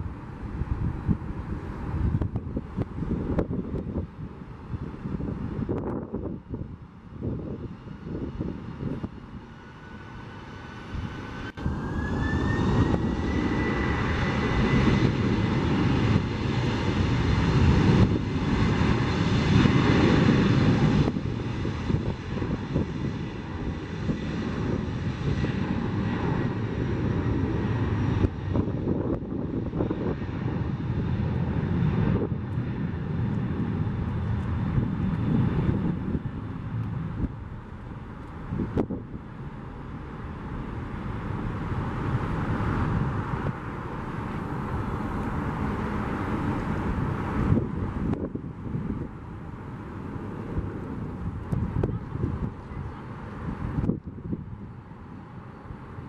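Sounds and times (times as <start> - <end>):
heavy jet rumble: 0.0 - 56.0
jet engine whine: 0.0 - 56.0.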